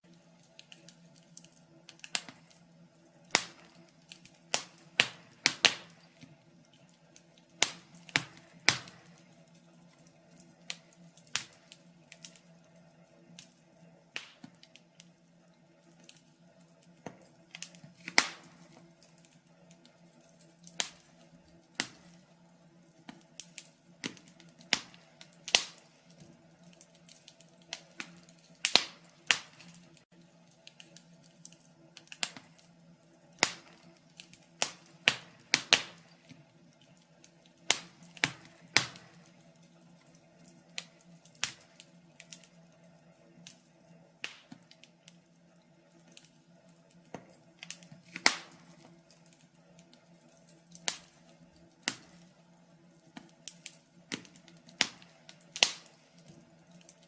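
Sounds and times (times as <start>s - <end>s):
faint steady hum: 0.0s - 57.0s
log fire crackling and popping: 0.0s - 57.0s.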